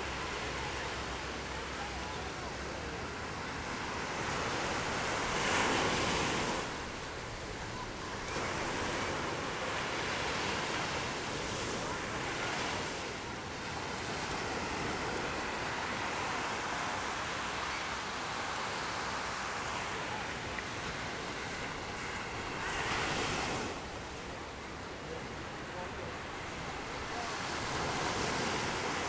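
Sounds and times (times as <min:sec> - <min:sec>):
waves washing up sand: 0:00.0 - 0:29.0.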